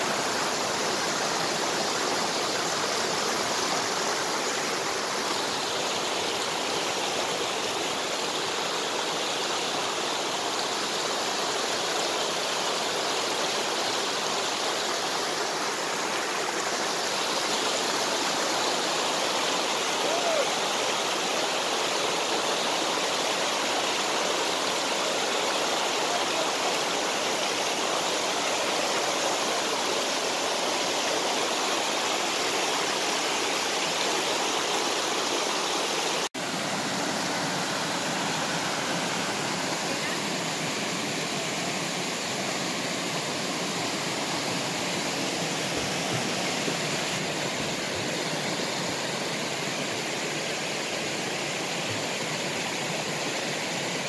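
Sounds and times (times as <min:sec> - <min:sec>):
stream water running over rocks: 0:00.0 - 0:54.0.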